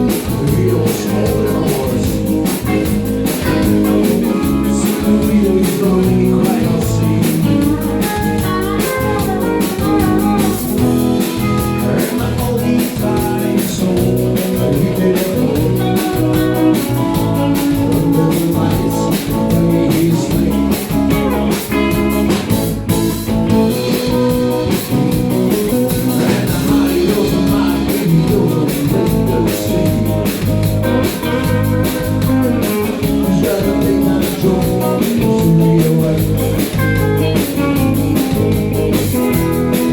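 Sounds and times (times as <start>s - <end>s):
country band playing: 0.0s - 39.9s.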